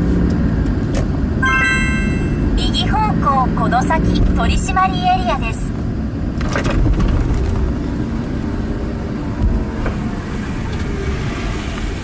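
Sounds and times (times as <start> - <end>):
car engine and tyre rumble: 0.0 - 1.4, 2.1 - 12.0.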